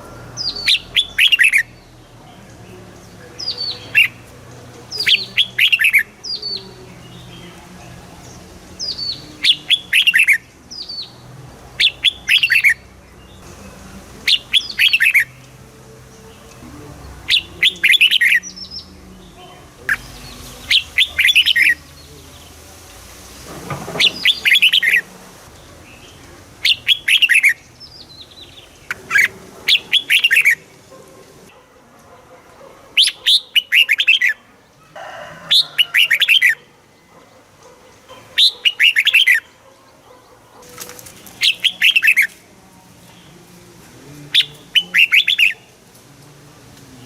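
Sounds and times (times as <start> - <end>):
bulbul singing: 0.0 - 31.6, 33.0 - 34.5, 35.2 - 46.0.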